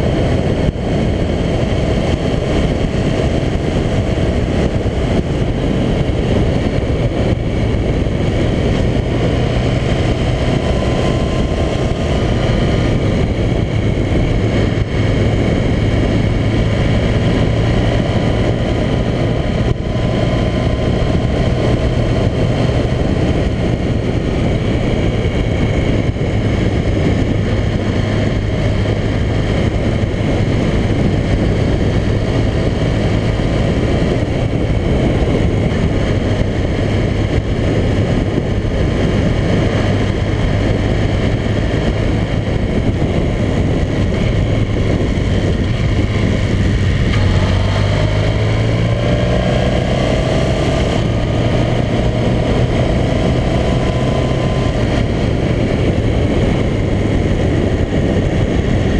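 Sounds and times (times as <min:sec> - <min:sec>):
motorcycle engine running: 0:00.0 - 0:58.9
road noise: 0:00.0 - 0:58.9
wind rushing: 0:00.0 - 0:58.9.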